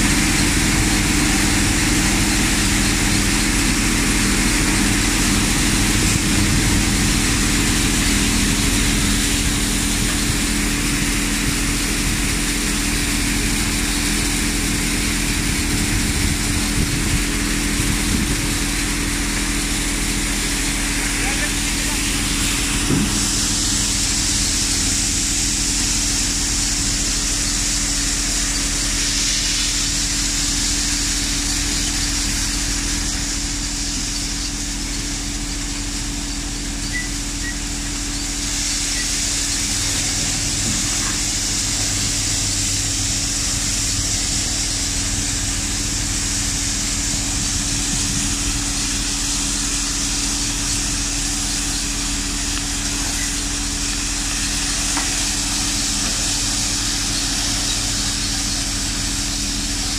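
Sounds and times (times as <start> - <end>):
thresher machine hum: 0.0 - 59.9.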